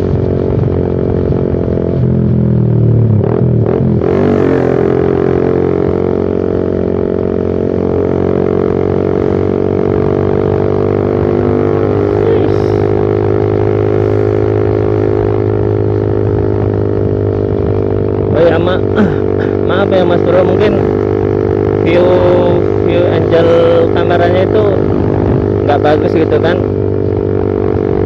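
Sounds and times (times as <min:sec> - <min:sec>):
motorcycle exhaust droning: 0:00.0 - 0:28.0.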